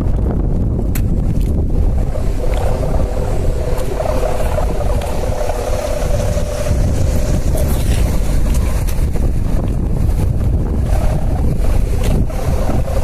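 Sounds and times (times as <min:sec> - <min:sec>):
steady hum: 0:00.0 - 0:13.0
wind buffeting microphone: 0:00.0 - 0:13.0.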